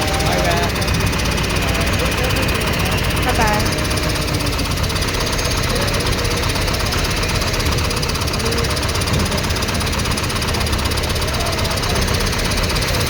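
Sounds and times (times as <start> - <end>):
large diesel engine clattering: 0.0 - 13.0.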